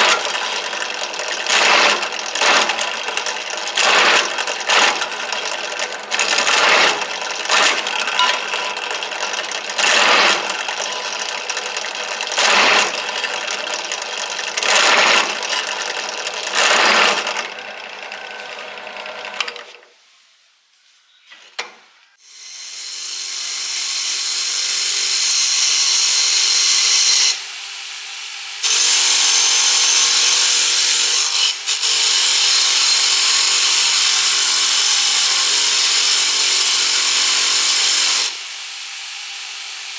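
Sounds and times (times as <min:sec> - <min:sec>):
power tool working steel: 0:00.0 - 0:19.8, 0:22.2 - 0:39.9.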